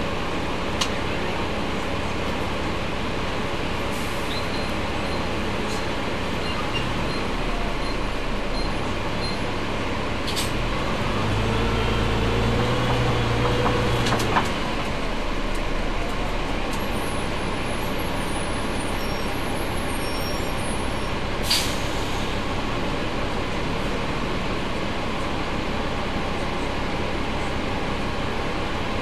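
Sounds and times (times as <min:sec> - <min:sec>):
bus engine drone: 0:00.0 - 0:29.0
road noise: 0:00.0 - 0:29.0.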